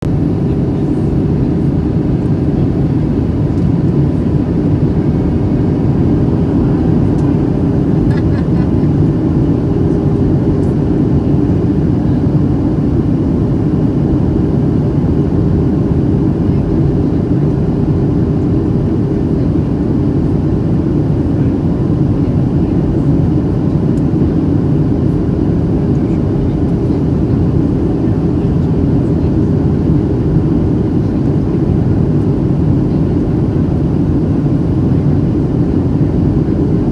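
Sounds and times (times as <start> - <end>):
airplane cabin rumble: 0.0 - 36.9.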